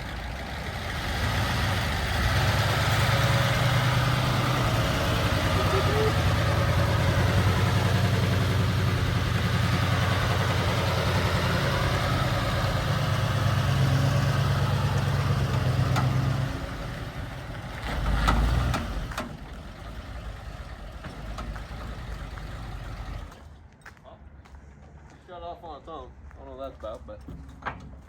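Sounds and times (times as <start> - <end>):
truck engine running: 0.0 - 23.4.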